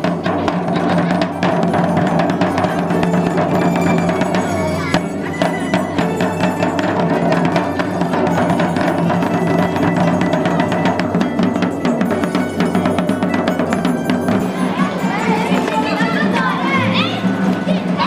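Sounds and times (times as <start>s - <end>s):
marching drum beaten with sticks: 0.0s - 18.0s.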